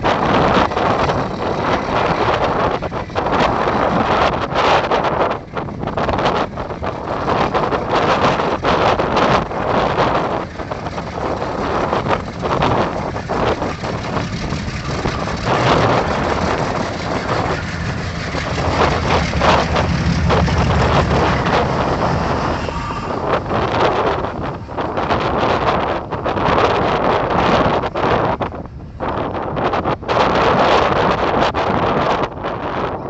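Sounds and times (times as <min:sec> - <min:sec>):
freight train rumbling: 0:00.0 - 0:33.0
wind buffeting microphone: 0:00.0 - 0:33.0.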